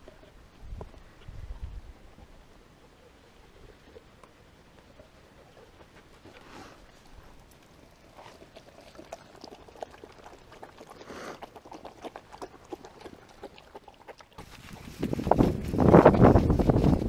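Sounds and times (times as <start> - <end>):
dogs lapping water: 3.0 - 17.0.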